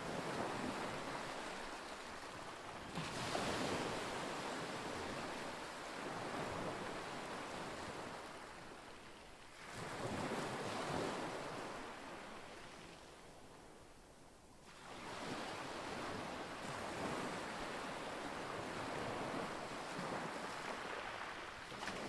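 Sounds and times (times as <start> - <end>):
waves washing onto shore: 0.0 - 13.8, 14.6 - 22.0.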